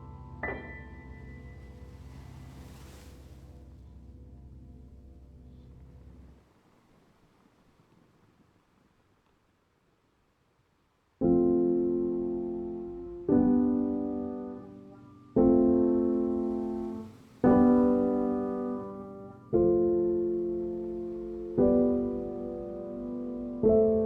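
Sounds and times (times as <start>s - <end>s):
slow piano chords: 0.0s - 6.6s, 11.2s - 24.0s.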